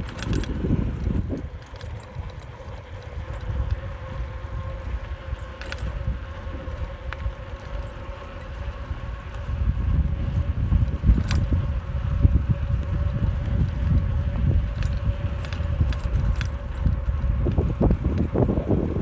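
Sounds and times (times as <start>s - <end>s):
bicycle tyres on path: 0.0s - 19.0s
wind rumble on microphone: 0.0s - 19.0s.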